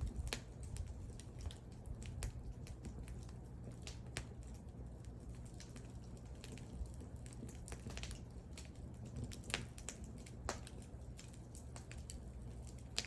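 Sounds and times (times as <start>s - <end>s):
burning wood crackling and popping: 0.0s - 13.0s
low rumble of flames: 0.0s - 13.0s.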